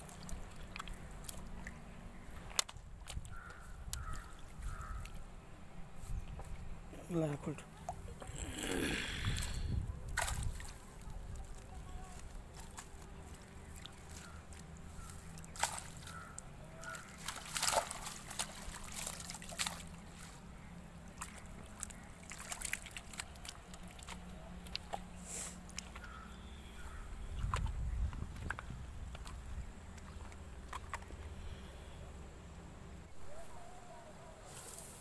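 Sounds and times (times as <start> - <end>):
water sloshing and splashing: 0.0 - 31.6.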